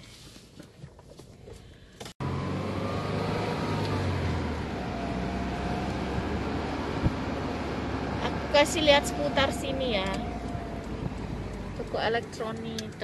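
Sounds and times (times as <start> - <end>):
car engine hum and road noise: 0.0 - 13.0.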